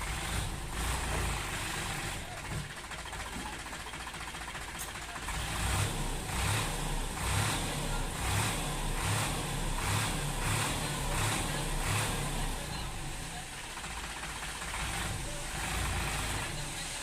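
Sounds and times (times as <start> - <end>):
heavy diesel engine pulsing: 0.0 - 17.0.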